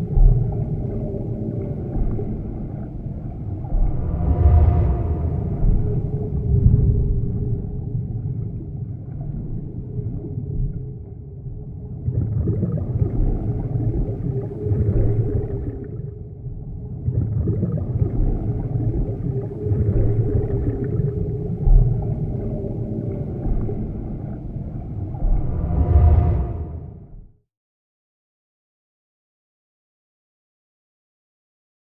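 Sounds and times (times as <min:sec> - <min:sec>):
deep underwater rumble: 0:00.0 - 0:27.4.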